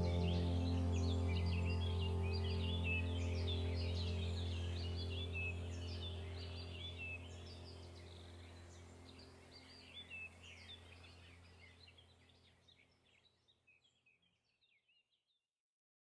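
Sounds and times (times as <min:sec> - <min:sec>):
low steady hum: 0:00.0 - 0:12.9
faint birdsong chirps: 0:00.0 - 0:15.4.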